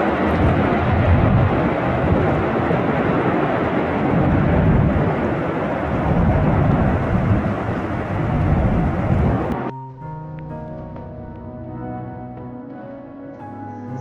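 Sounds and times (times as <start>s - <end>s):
wind buffeting microphone: 0.0s - 12.4s
jet engines rumbling: 0.0s - 14.0s.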